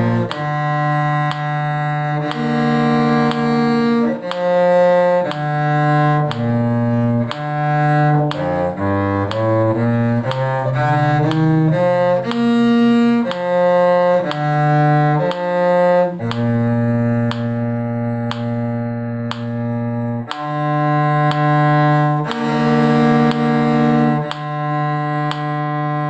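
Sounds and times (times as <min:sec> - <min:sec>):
bowed string instrument playing: 0:00.0 - 0:26.0.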